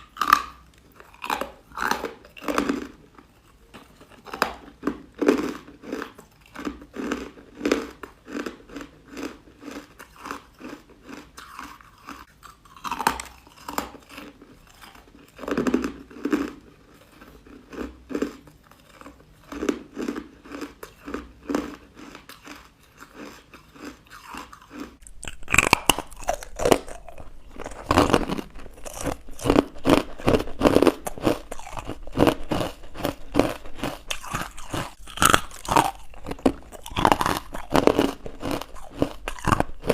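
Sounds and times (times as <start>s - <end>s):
crunchy ice chewing: 0.0s - 39.9s.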